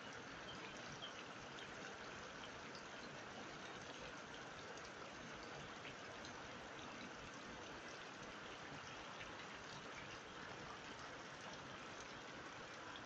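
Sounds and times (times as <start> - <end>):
steady rain on wet ground: 0.0 - 13.0.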